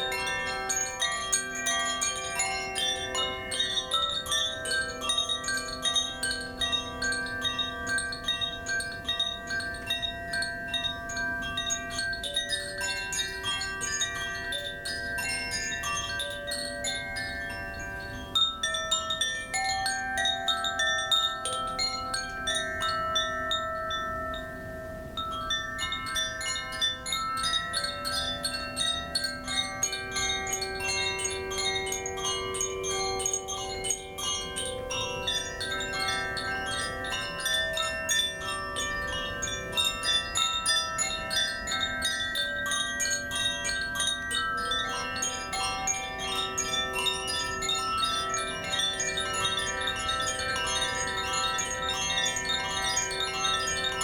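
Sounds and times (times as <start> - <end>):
chimes ringing: 0.0 - 54.0.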